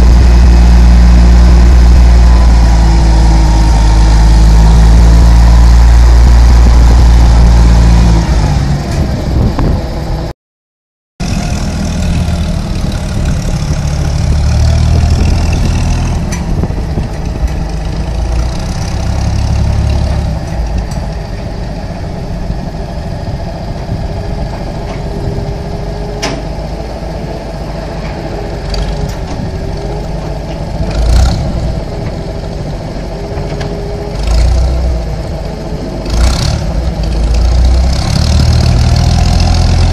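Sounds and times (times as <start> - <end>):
engine running and revving: 0.0 - 10.3, 11.2 - 39.9.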